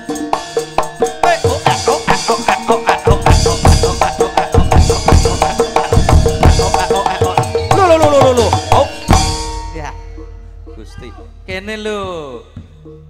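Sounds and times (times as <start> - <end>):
gamelan-style music: 0.0 - 13.0.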